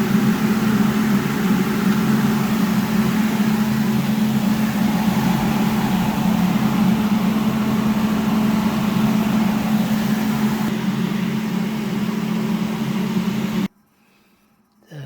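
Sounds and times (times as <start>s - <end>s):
exhaust fan humming: 0.0s - 13.7s.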